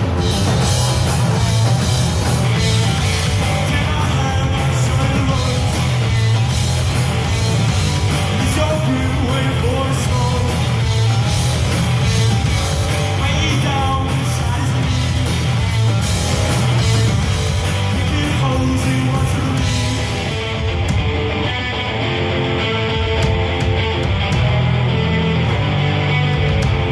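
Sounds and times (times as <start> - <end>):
drum kit: 0.0 - 26.9
electric guitars: 0.0 - 26.9.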